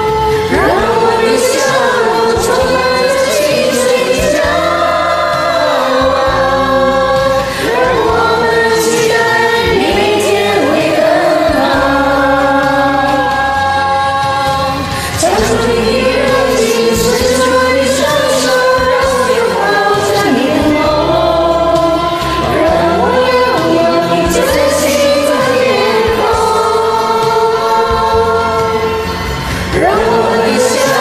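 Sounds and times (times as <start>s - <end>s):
group singing pop song: 0.0s - 31.0s
karaoke backing track: 0.0s - 31.0s.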